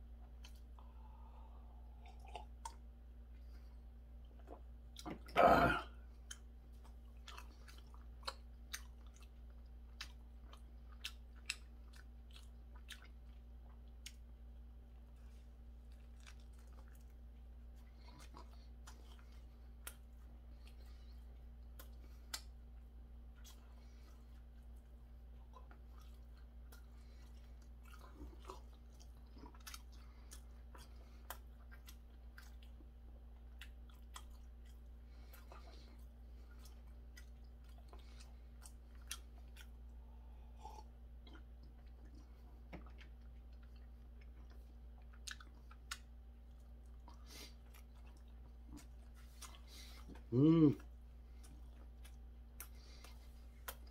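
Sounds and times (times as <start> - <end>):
steady low hum: 0.0 - 53.9
person chewing: 0.1 - 53.9.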